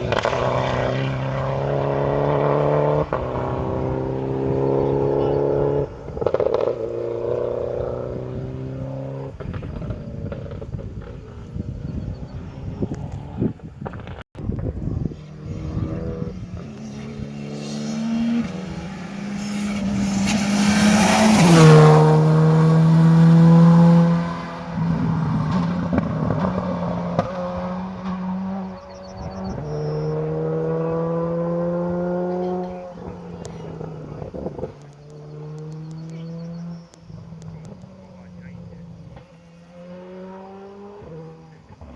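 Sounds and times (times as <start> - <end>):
rally car accelerating past: 0.0 - 41.9.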